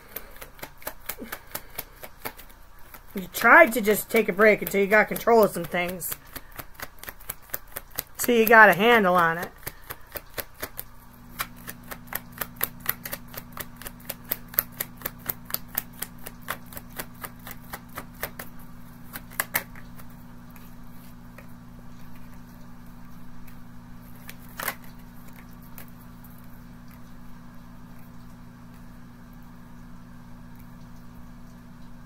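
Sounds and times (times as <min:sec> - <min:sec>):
cards being shuffled: 0:00.0 - 0:26.5.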